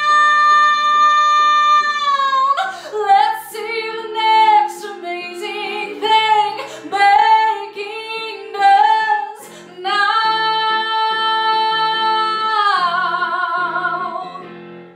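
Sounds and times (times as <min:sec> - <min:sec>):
woman singing a ballad: 0:00.0 - 0:14.4.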